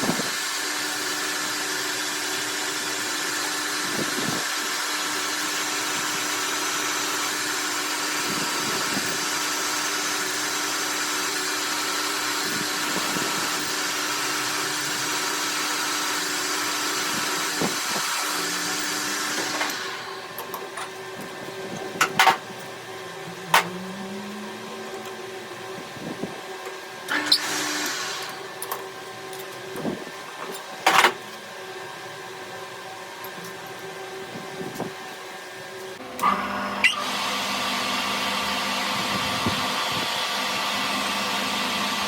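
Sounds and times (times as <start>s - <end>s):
power tool running: 0.0s - 31.2s, 33.4s - 42.0s.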